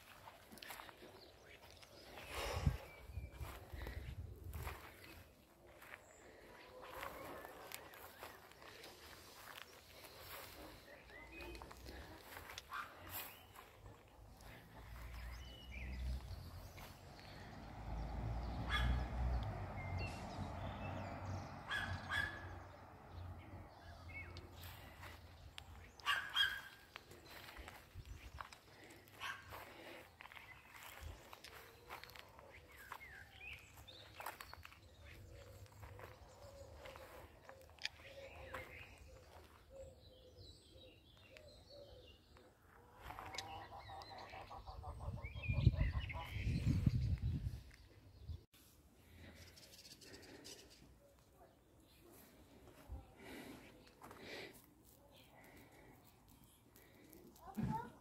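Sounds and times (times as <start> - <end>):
small birds chirping: 0.0 - 18.1, 18.7 - 58.0.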